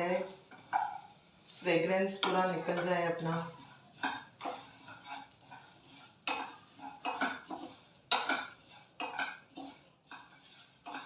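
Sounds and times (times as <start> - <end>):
spices scraped around a pan: 0.0 - 11.0.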